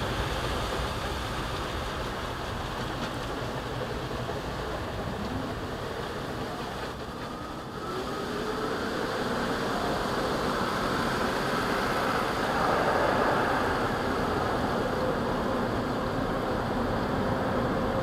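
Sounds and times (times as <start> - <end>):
car wash machinery rushing: 0.0 - 18.0
faint gliding whine: 0.0 - 18.0.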